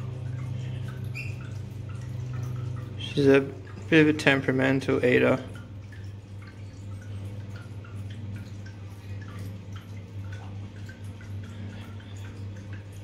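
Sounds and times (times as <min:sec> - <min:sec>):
steady low hum: 0:00.0 - 0:13.0
water dripping and plinking: 0:00.0 - 0:13.0.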